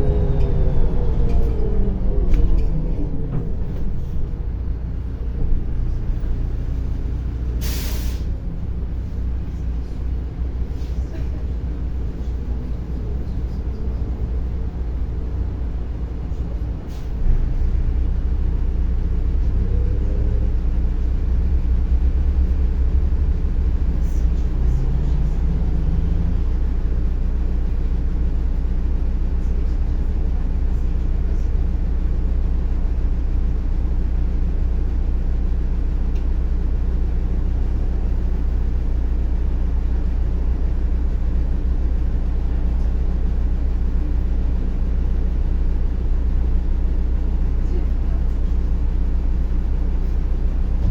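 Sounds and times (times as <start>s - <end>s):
bus engine and road rumble: 0.0s - 50.9s.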